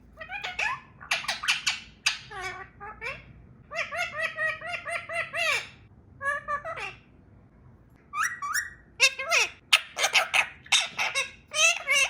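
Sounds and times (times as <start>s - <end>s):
parrot calling: 0.1s - 7.1s, 8.1s - 12.0s.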